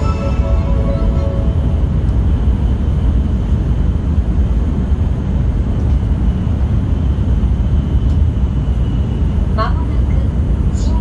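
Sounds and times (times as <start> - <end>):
train cabin rumble: 0.0 - 11.0.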